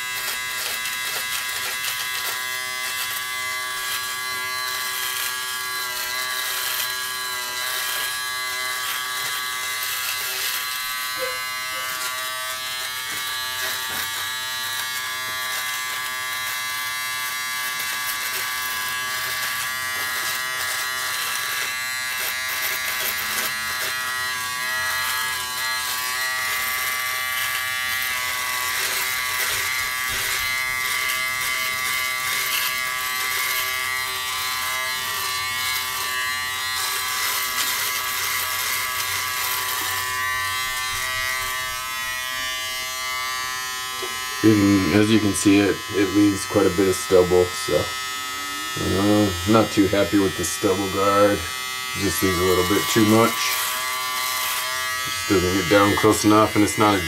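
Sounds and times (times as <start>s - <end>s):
electric shaver buzzing: 0.0s - 57.0s.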